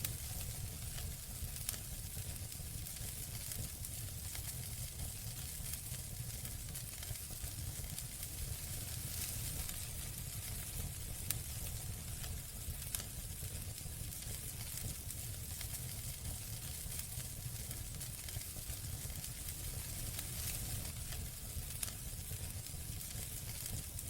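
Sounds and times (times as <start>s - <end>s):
campfire hissing: 0.0s - 24.0s
fire crackles and pops: 0.0s - 24.0s.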